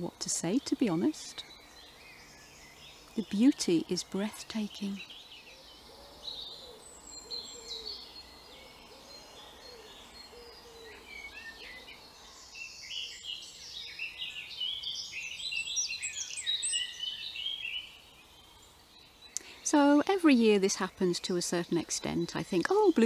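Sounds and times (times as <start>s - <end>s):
birds chirping and trilling: 0.0s - 23.0s.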